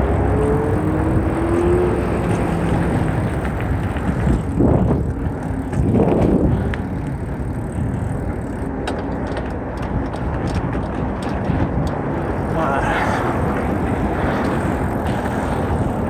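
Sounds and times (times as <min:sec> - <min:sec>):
bike rattling over ground: 0:00.0 - 0:16.0
wind rumbling on microphone: 0:00.0 - 0:16.0
sharp clicks and ticks: 0:01.7 - 0:16.0.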